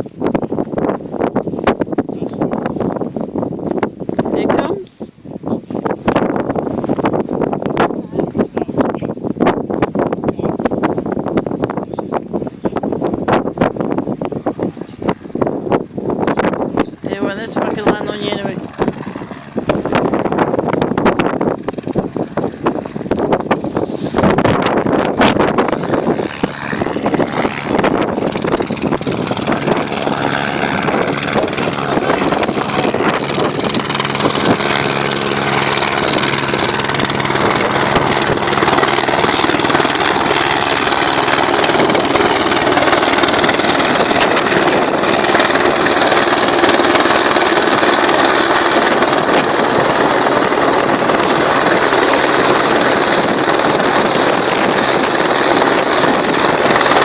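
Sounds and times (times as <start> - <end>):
helicopter rotor and engine: 0.0 - 57.0
wind buffeting microphone: 0.0 - 57.0.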